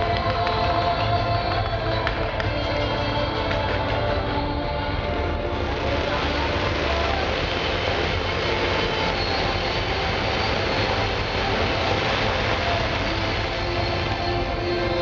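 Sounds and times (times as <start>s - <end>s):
fireworks fountains roaring: 0.0s - 15.0s.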